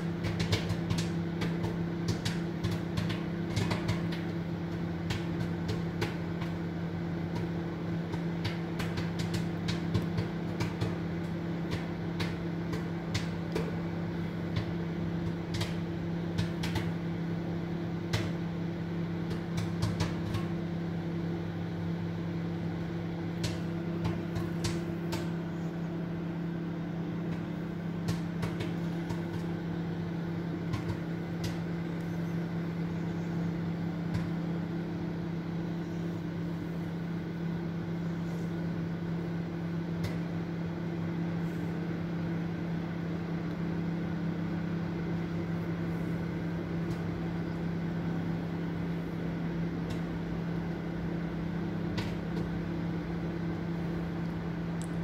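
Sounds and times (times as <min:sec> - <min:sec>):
popcorn popping: 0:00.0 - 0:38.0, 0:42.0 - 0:55.0
microwave oven humming: 0:00.0 - 0:55.0.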